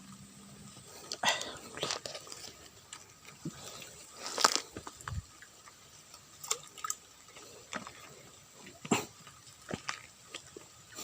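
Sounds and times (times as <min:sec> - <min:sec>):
water splashing and dripping: 0:00.9 - 0:11.0.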